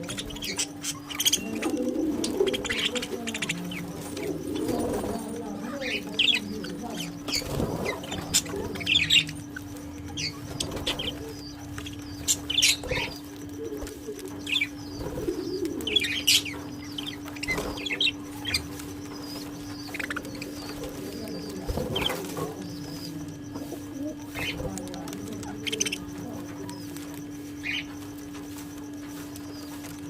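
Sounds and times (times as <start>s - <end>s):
parrots chirping: 0.0s - 30.0s
steady low hum: 0.0s - 30.0s
wings flapping: 0.0s - 30.0s.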